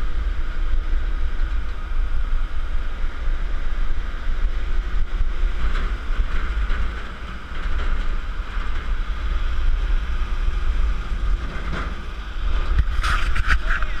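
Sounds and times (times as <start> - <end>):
truck rumbling on dirt road: 0.0 - 14.0
wind buffeting microphone: 0.0 - 14.0.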